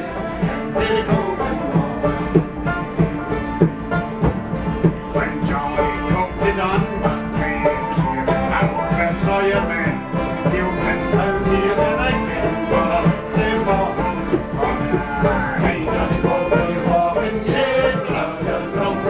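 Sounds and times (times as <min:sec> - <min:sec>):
accordion: 0:00.0 - 0:19.0
fiddle: 0:00.0 - 0:19.0.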